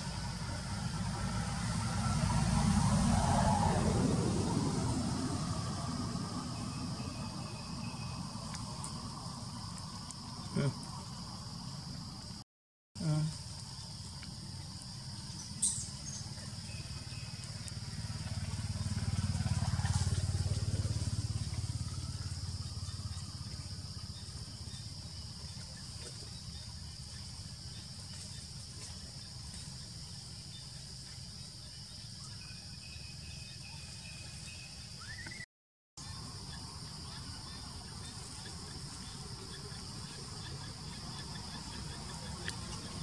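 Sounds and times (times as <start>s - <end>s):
high insect drone: 0.0s - 12.4s, 13.0s - 35.2s, 36.0s - 43.0s.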